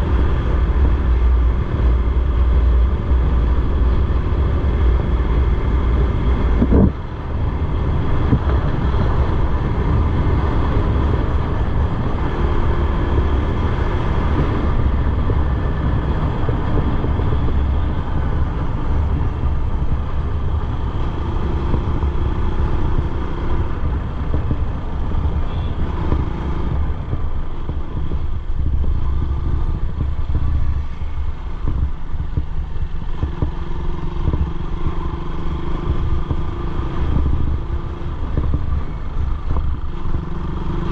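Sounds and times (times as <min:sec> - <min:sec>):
motorcycle engine rumbling: 0:00.0 - 0:40.9.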